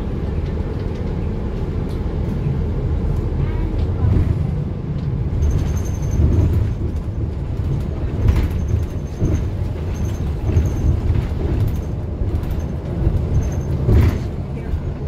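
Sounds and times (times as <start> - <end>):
bus body rattling: 0.0 - 15.0
bus engine and road rumble: 0.0 - 15.0.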